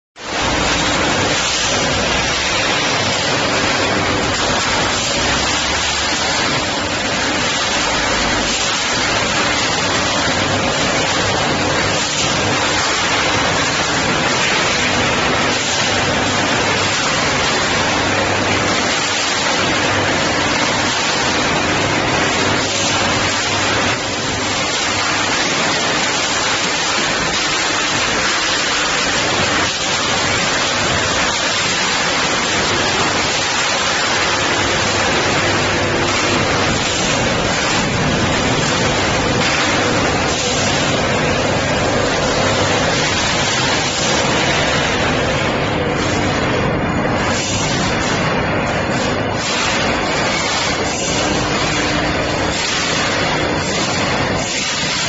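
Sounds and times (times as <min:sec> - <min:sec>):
factory background hiss: 0:00.2 - 0:55.0.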